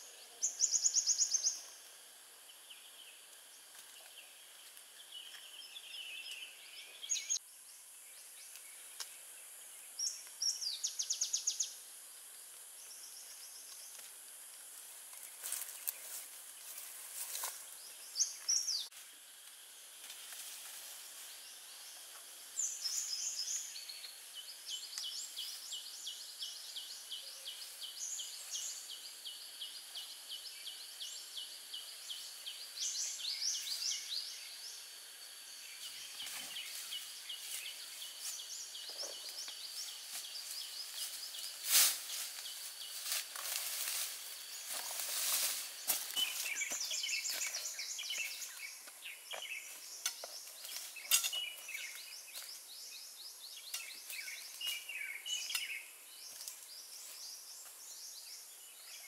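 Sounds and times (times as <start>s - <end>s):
birds chirping and singing: 0.0s - 1.8s, 2.5s - 11.8s, 15.3s - 18.9s, 21.3s - 59.0s
steady high hiss: 0.0s - 59.0s.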